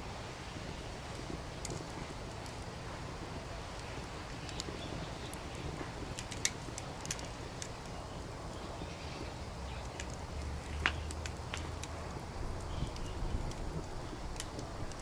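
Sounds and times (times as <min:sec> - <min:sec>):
low background rumble: 0:00.0 - 0:15.0
wood fire crackling and popping: 0:00.0 - 0:15.0.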